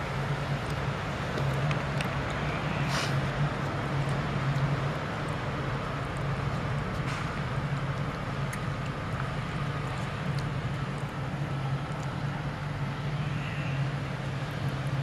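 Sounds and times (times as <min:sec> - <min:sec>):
low background hum: 0:00.0 - 0:15.0
cat chewing and licking food: 0:00.1 - 0:15.0.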